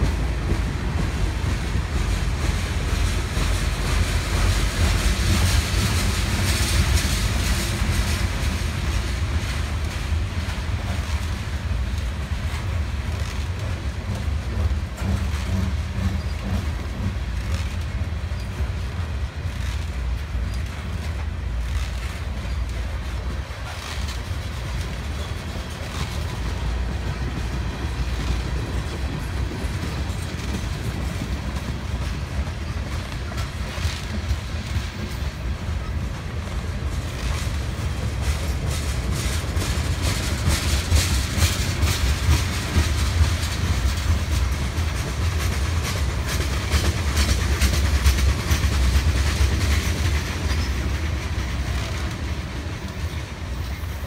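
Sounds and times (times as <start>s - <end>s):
freight train rolling past: 0.0s - 54.0s
wheels clicking on track: 0.0s - 54.0s.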